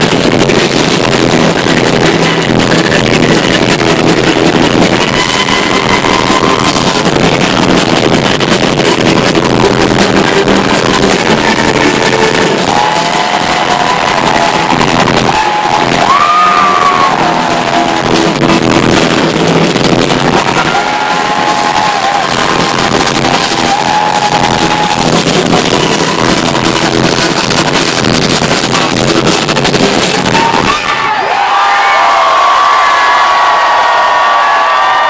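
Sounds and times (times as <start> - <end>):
guitars: 0.0 - 31.2
drums: 0.0 - 35.0.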